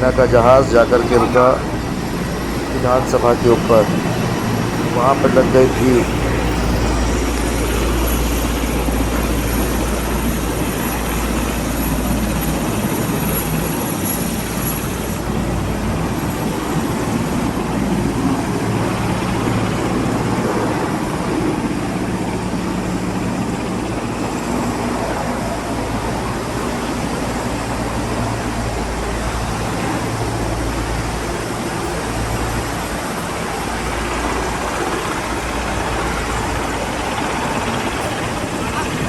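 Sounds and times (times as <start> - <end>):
helicopter rotor and turbine: 0.0 - 39.0.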